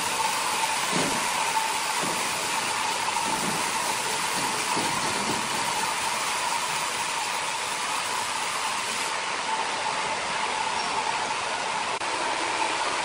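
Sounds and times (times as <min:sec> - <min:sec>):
band sawmill running: 0:00.0 - 0:13.0.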